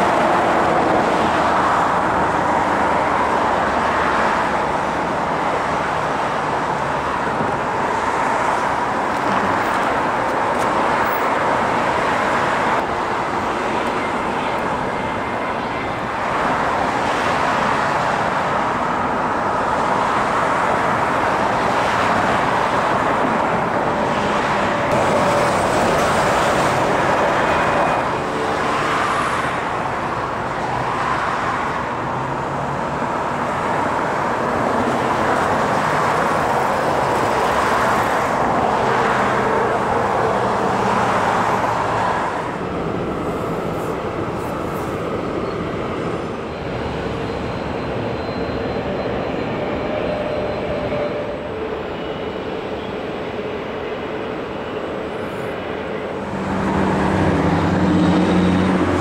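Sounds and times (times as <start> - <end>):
jet engines rushing and whining: 0.0 - 59.0.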